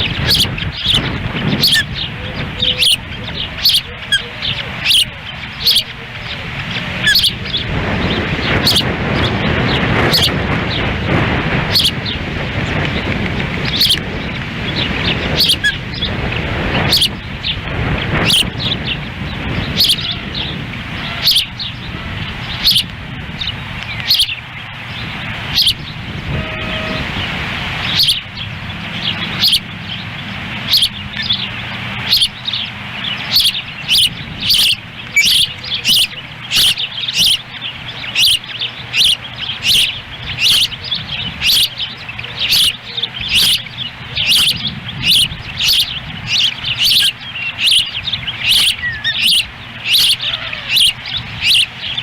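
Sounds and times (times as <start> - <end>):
ospreys chirping: 0.0 - 52.0
wind rumbling on microphone: 0.0 - 52.0.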